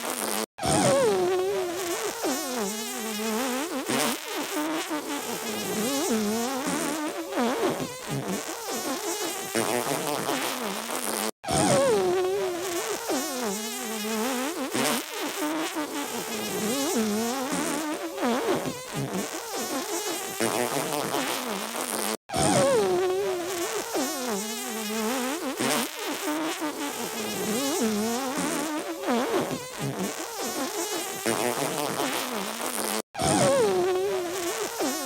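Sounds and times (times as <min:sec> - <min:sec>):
comic fart noises: 0:00.0 - 0:35.0.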